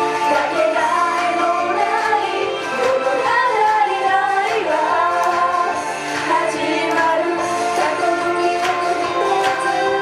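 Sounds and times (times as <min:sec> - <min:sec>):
backing music through speakers: 0:00.0 - 0:10.0
women singing into microphones: 0:00.0 - 0:10.0.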